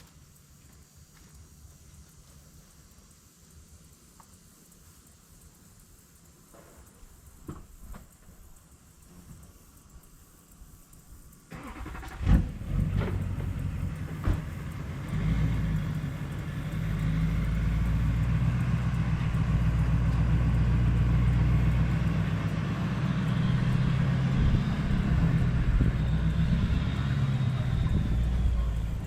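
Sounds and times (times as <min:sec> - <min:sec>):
vehicle engine humming at low speed: 0:00.0 - 0:29.0.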